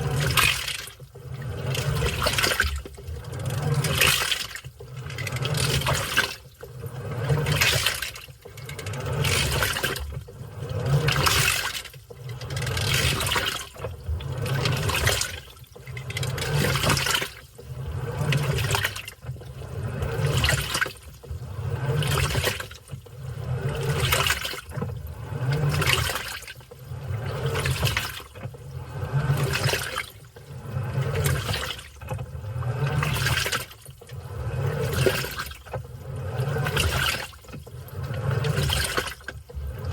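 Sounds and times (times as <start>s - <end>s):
washing machine churning: 0.0s - 39.9s.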